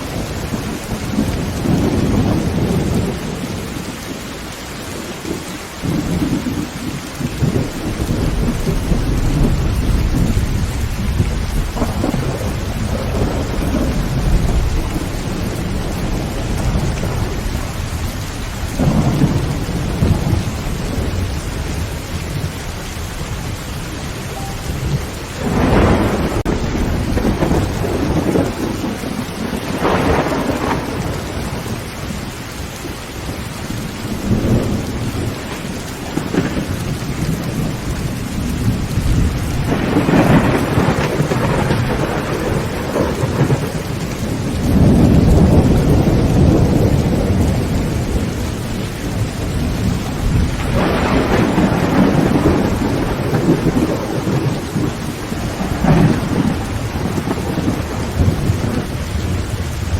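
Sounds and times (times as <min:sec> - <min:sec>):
heavy rain on a tin roof: 0:00.0 - 0:59.9
thunder rumbling: 0:00.0 - 0:59.9.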